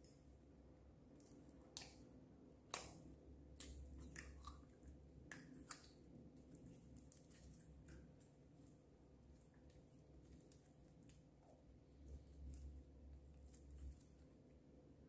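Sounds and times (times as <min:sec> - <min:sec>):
faint squishing: 0:00.0 - 0:15.0.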